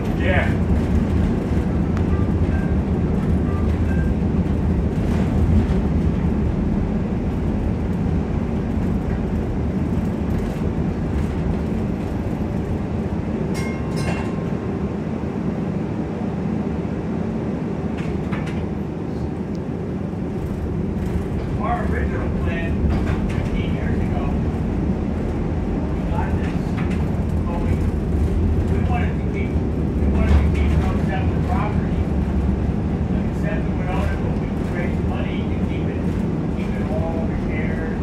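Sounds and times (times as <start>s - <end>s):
streetcar rumbling on rails: 0.0s - 38.0s.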